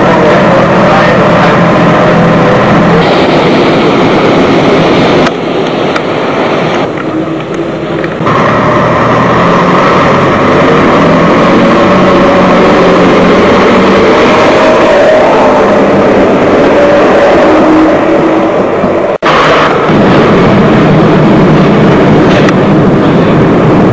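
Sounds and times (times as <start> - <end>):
diesel railcar engine drone: 0.0 - 23.9.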